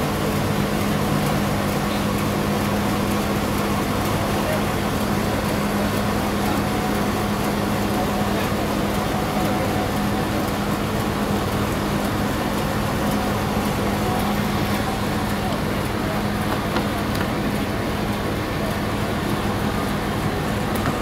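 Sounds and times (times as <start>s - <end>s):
sawmill machinery hum: 0.0s - 21.0s.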